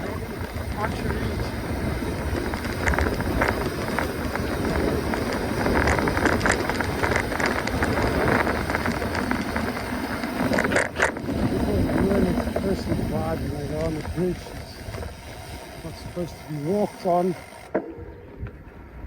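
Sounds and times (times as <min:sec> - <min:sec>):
wind rumble on microphone: 0:00.0 - 0:16.5, 0:17.8 - 0:19.0
bike tyres crackling on trail: 0:00.0 - 0:19.0.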